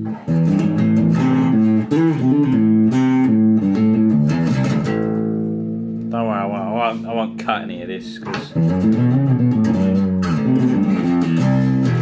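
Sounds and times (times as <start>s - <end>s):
electric bass playing melody: 0.0s - 12.0s.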